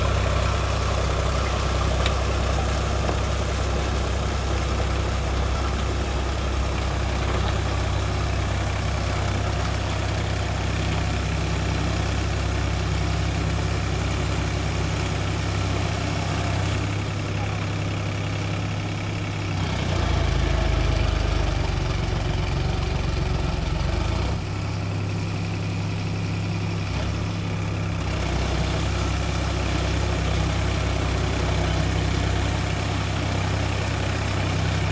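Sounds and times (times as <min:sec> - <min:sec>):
tractor diesel engine droning: 0:00.0 - 0:34.9.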